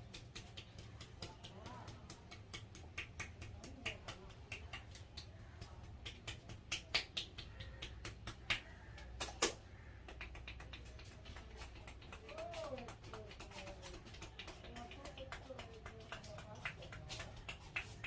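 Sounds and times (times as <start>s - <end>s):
hands tapping and slapping head: 0.0s - 18.0s.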